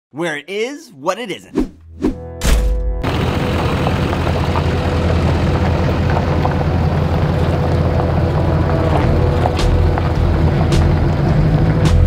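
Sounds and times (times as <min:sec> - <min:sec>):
truck engine rumbling: 0:01.8 - 0:12.0.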